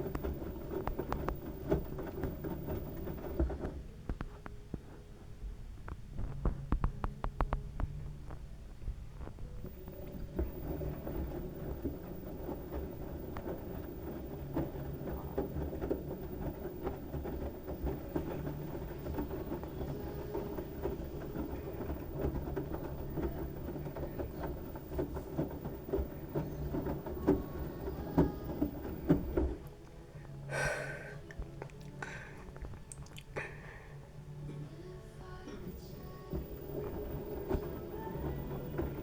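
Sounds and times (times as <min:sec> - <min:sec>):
quiet hum: 0:00.0 - 0:39.0
washing machine drum rumbling: 0:00.0 - 0:39.0.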